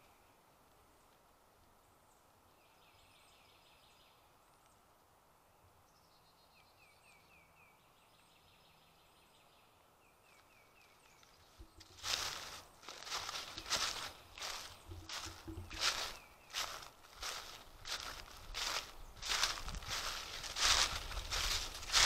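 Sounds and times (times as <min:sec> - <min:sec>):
low steady hiss: 0:00.0 - 0:22.0
songbirds chirping: 0:00.0 - 0:22.0.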